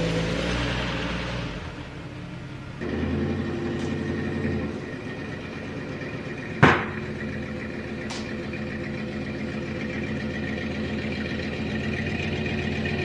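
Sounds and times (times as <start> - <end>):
truck engine running: 0.0 - 13.0
power steering pump whine: 2.0 - 13.0.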